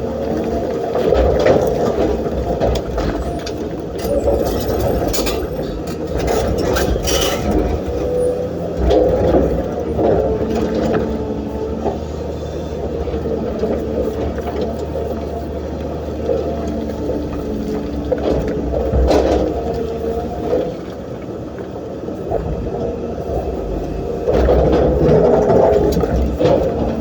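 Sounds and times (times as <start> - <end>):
excavator diesel engine rumbling: 0.0 - 27.0.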